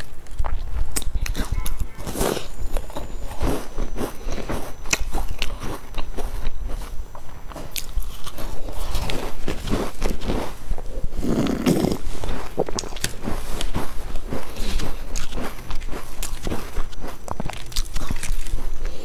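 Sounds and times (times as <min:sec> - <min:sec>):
crunchy pastry chewing: 0:00.0 - 0:19.0.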